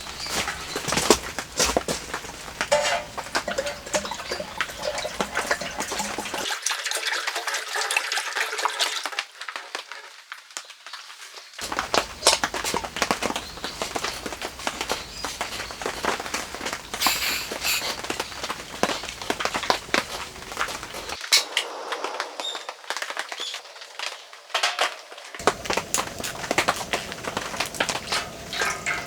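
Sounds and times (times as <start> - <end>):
rain falling: 0.0 - 6.6, 8.7 - 29.0.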